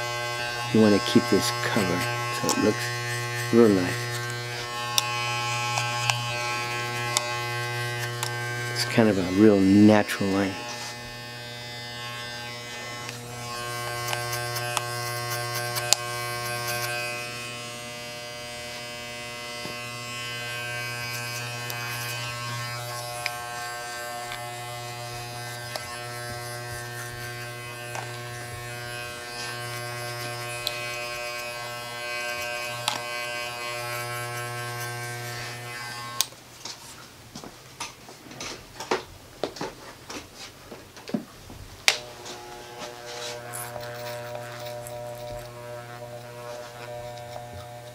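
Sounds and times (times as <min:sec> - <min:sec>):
electric hair clipper buzzing: 0:00.0 - 0:36.3, 0:41.8 - 0:47.9.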